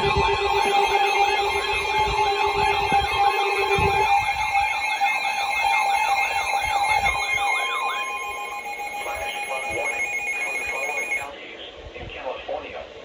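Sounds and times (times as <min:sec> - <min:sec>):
electronic siren yelping: 0:00.0 - 0:11.3
steady single-pitch tone: 0:00.0 - 0:11.3.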